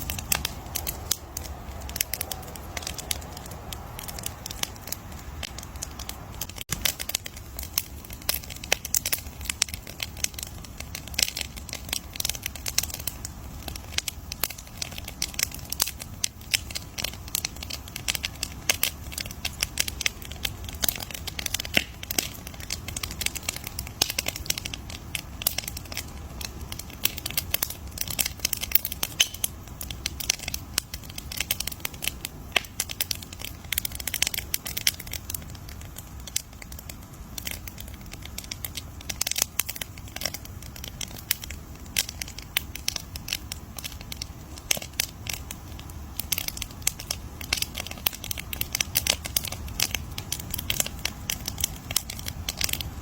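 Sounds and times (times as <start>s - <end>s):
campfire crackling: 0.0s - 53.0s
low steady rumble: 0.0s - 53.0s.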